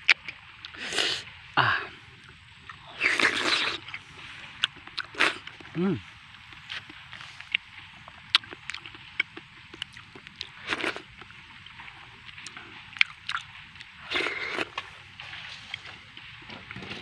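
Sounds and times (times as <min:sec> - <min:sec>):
chewing and mouth noises: 0:00.0 - 0:16.4.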